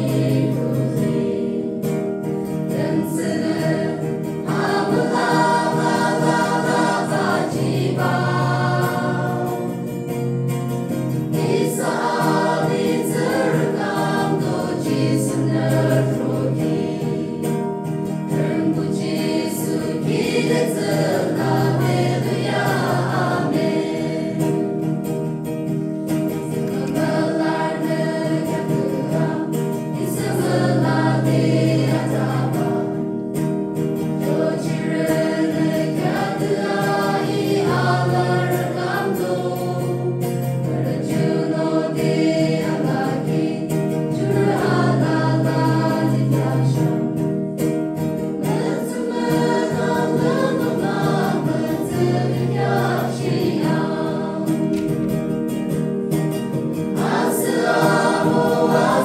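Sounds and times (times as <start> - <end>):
choir singing gospel song: 0.0 - 25.4, 26.1 - 55.6, 56.5 - 59.0
acoustic guitar: 0.0 - 59.0.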